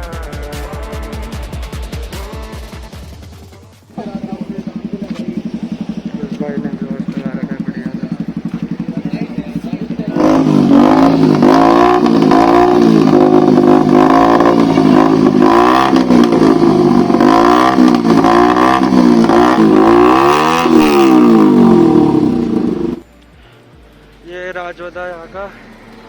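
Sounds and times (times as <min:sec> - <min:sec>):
motorcycle engines revving: 0:01.2 - 0:26.0.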